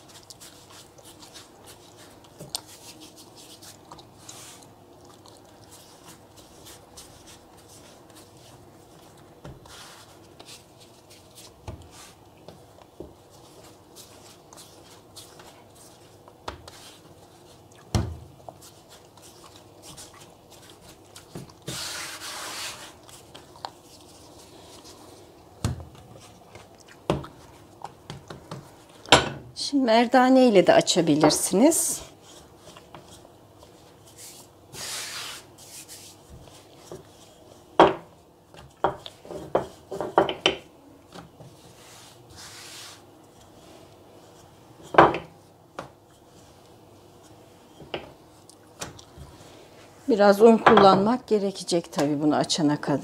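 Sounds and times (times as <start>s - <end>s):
hands rolling bread dough: 0.0s - 53.0s.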